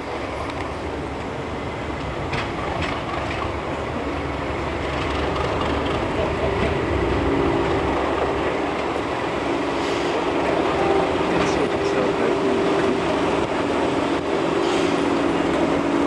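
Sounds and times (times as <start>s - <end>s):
diesel locomotive engine: 0.0s - 16.0s.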